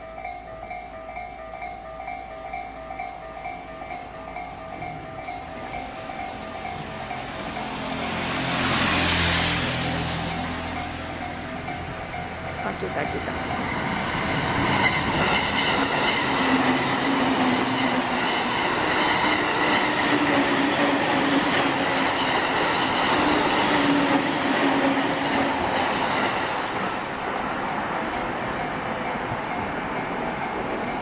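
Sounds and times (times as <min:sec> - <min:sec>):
train wheels rushing on rails: 0:03.5 - 0:31.0.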